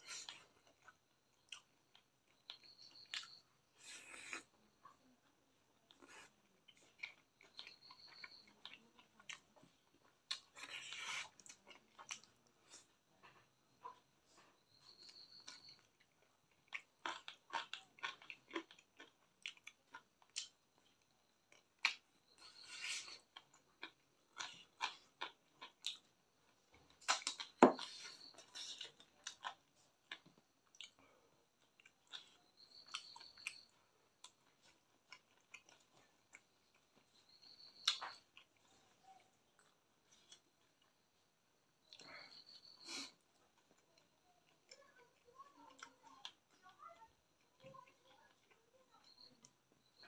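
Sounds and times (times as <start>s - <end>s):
wet chewing and mouth clicks: 0.0s - 44.9s.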